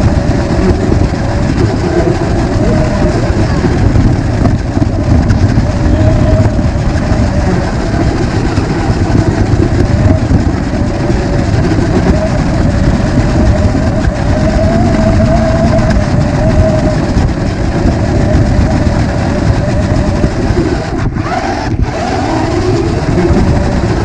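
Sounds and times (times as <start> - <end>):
faint motor whine: 0.0 - 24.0
rc car rattling rumble: 0.0 - 24.0.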